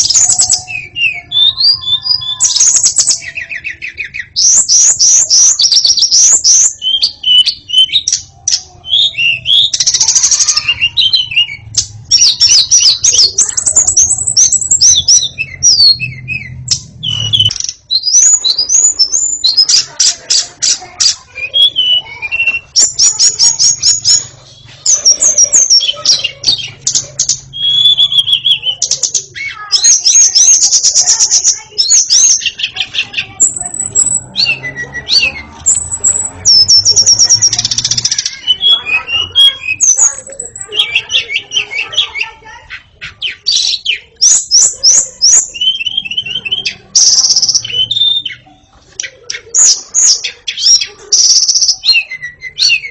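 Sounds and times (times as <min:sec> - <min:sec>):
songbird singing trills and whistles: 0:00.0 - 0:52.9.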